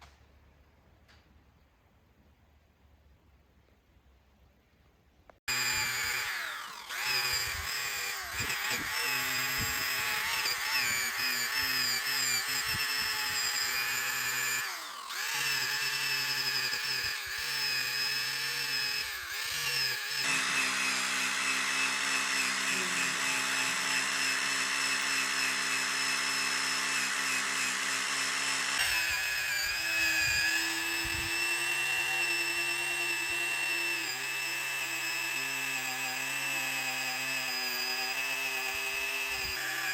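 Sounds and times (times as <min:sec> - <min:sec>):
electric power tool grinding: 0:05.5 - 0:39.9.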